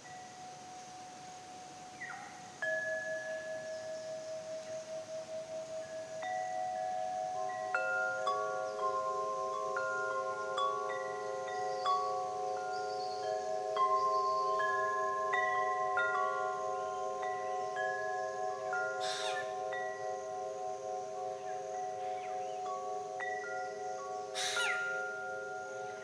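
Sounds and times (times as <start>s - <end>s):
low wavering chime tones: 0.0s - 26.0s
wind chimes ringing: 0.0s - 26.0s.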